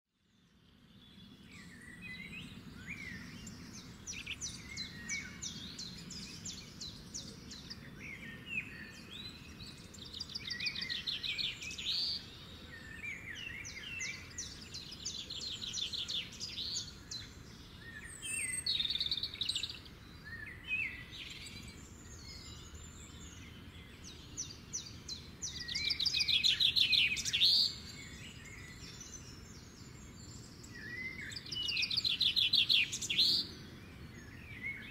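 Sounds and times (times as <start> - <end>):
small birds chirping and trilling: 0.2 - 34.9.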